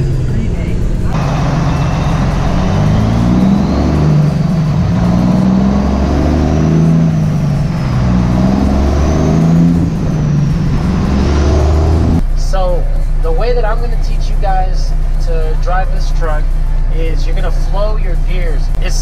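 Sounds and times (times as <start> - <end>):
diesel truck engine revving: 0.0 - 19.0
gearbox whine: 0.0 - 19.0.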